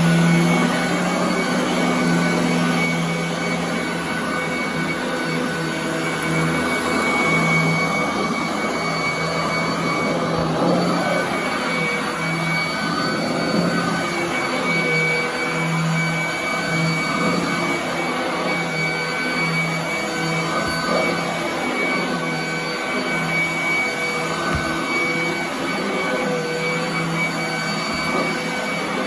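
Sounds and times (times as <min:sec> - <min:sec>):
vacuum cleaner running on carpet: 0:00.0 - 0:29.0.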